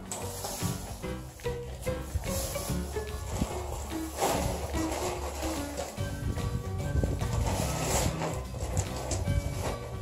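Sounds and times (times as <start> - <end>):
background music melody: 0.0 - 10.0.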